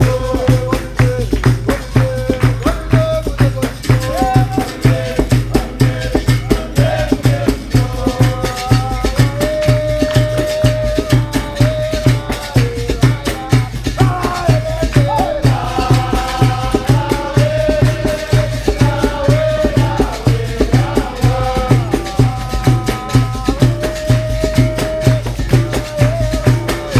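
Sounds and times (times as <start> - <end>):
singing: 0.0 - 26.9
steady drum beat: 0.0 - 26.9.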